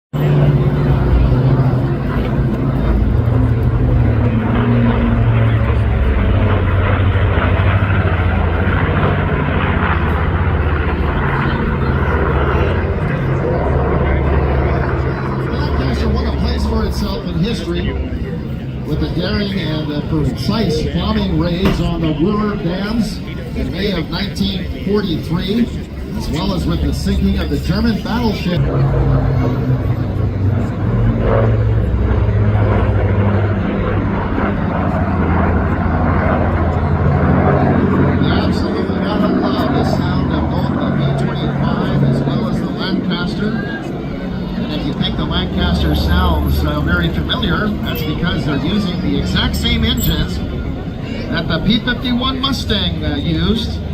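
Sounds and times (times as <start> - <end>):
propeller plane engines droning: 0.1 - 53.9.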